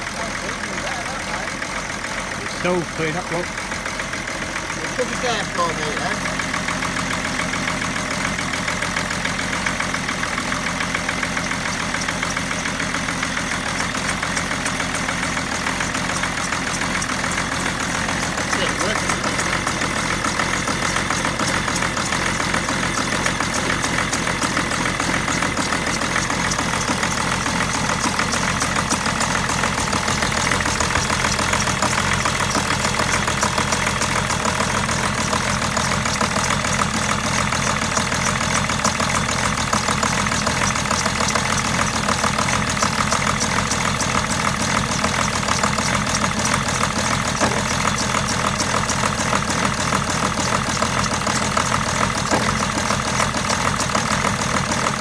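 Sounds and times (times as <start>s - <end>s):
diesel engine idling roughly: 0.0s - 55.0s.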